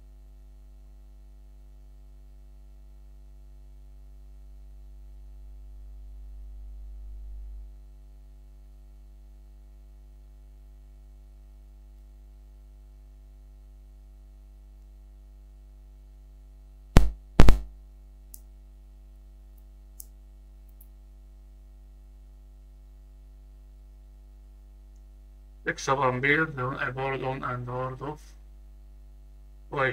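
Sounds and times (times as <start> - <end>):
electrical mains hum: 0.0 - 29.9.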